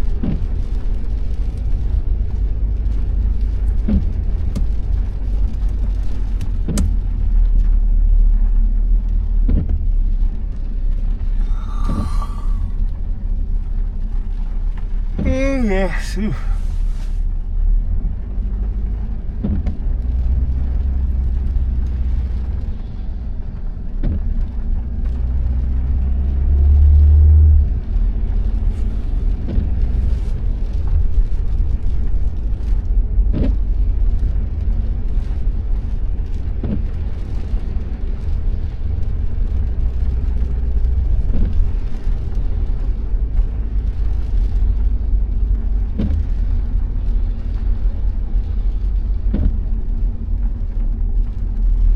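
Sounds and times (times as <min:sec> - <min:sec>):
car road and engine rumble: 0:00.0 - 0:51.9.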